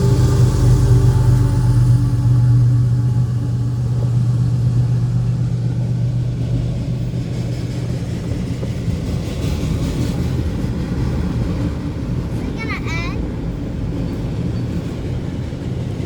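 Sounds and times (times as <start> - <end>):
freight cars rumbling: 0.0 - 16.0
train engine hum: 0.0 - 16.0.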